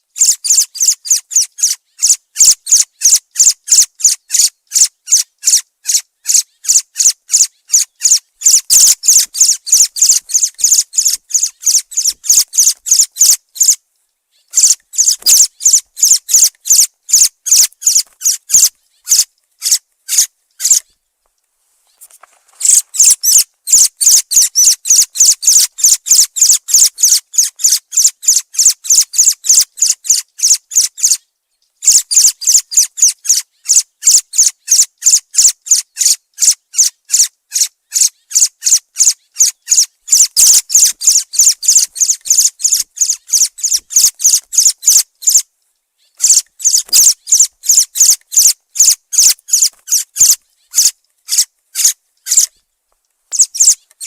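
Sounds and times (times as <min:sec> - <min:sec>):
thrush calling: 0:00.2 - 0:20.9, 0:22.6 - 0:31.2, 0:31.8 - 0:52.6, 0:53.3 - 0:54.0.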